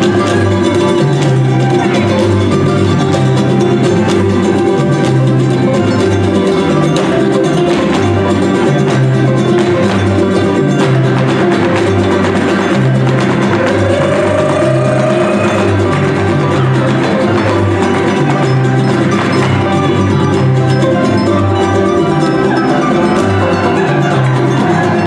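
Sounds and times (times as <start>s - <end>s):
strummed string band music: 0.0s - 25.0s.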